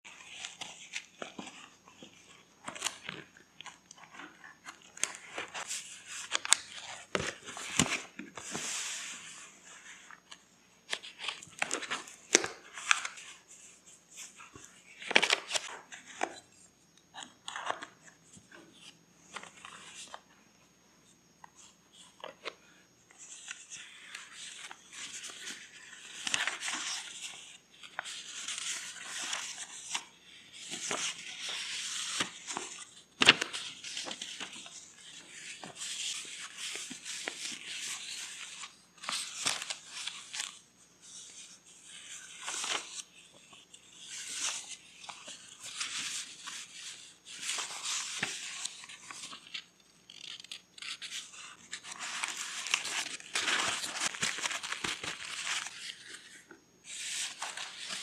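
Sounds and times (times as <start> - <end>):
paper rustling and crinkling: 0.1 - 16.5, 21.5 - 58.0.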